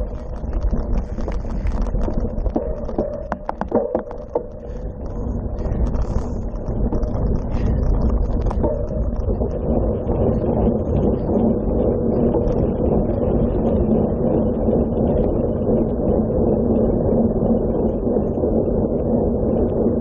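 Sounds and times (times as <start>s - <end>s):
bicycle tyres rolling over gravel: 0.0s - 20.0s
steady low hum: 0.0s - 20.0s
wind rushing on microphone: 0.0s - 20.0s.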